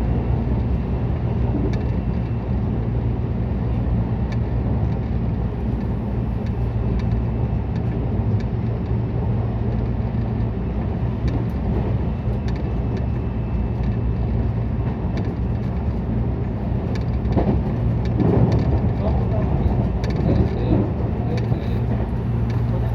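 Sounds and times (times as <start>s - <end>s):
train interior rumble: 0.0s - 22.9s.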